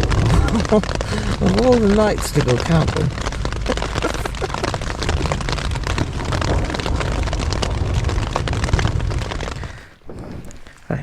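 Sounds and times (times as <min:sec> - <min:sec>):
heavy rain on a tent: 0:00.0 - 0:11.0
thunder rumble: 0:00.0 - 0:11.0.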